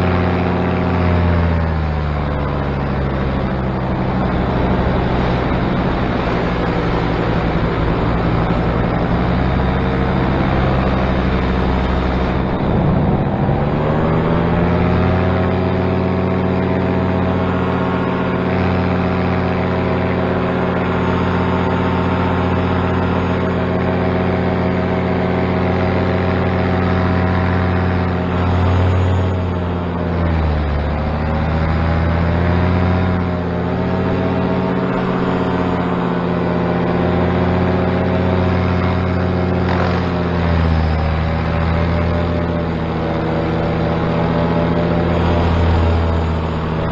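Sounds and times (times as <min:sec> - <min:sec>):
paramotor engine droning: 0:00.0 - 0:46.9.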